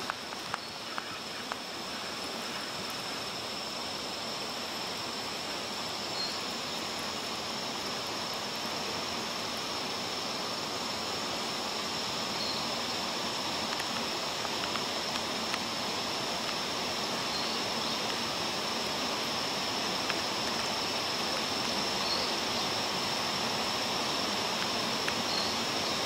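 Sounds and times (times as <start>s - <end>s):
flowing water rushing: 0.0s - 26.0s
high insect drone: 0.0s - 26.0s.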